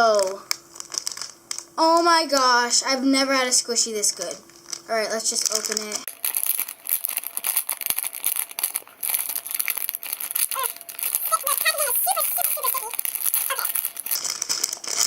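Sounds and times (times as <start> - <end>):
plastic packaging crinkling: 0.0 - 1.8, 4.4 - 15.0.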